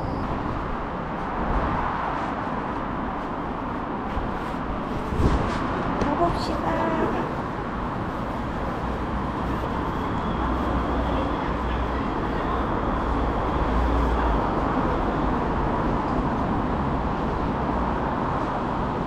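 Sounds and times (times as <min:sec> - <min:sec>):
metro station rumble: 0:00.0 - 0:19.0.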